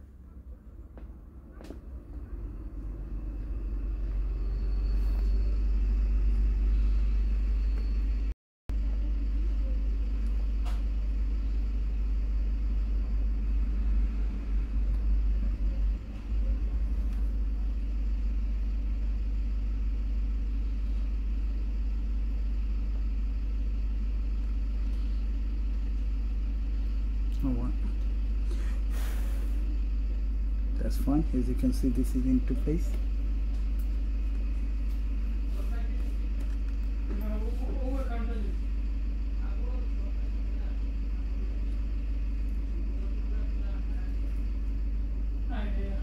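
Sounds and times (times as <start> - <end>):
low background rumble: 0.0 - 46.0.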